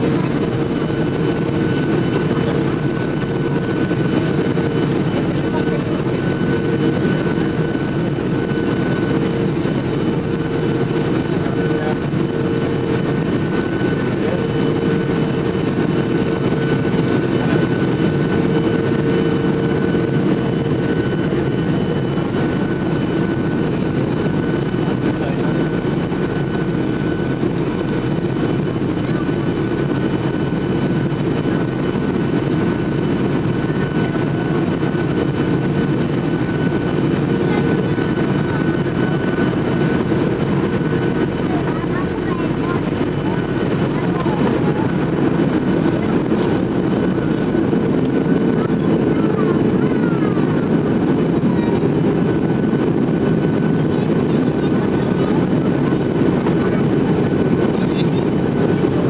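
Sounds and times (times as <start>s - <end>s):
aircraft cabin engine rush: 0.0s - 59.0s.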